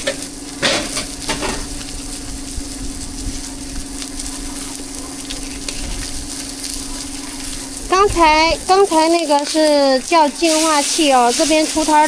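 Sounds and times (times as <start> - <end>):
cake sizzling on a griddle: 0.0 - 12.0.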